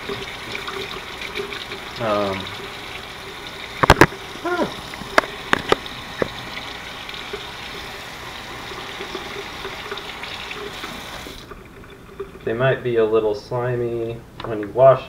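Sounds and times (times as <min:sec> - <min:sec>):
kitchen tap running: 0:00.0 - 0:13.4.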